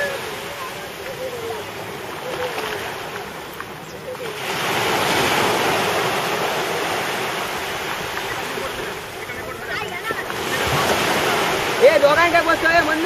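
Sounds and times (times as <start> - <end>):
surf washing in shallows: 0.0 - 13.0.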